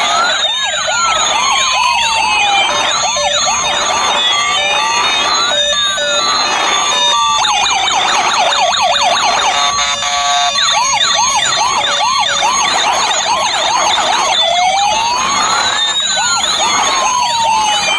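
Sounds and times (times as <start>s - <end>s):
toy police sirens: 0.0s - 17.9s.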